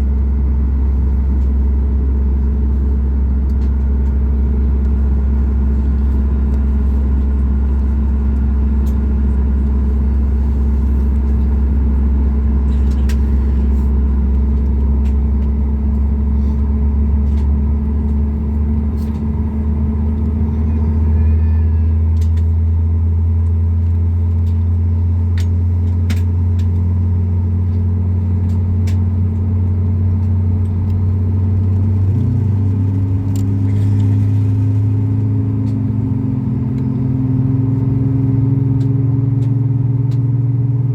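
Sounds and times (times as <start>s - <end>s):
air conditioning hum: 0.0s - 40.9s
jet engines idling: 0.0s - 40.9s.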